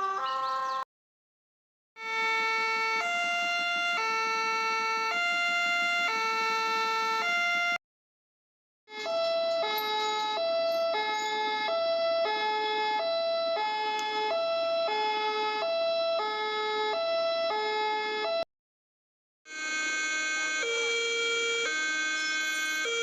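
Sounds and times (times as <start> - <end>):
electronic two-tone siren: 0.0 - 0.8, 2.0 - 7.8, 8.9 - 18.5, 19.5 - 23.0.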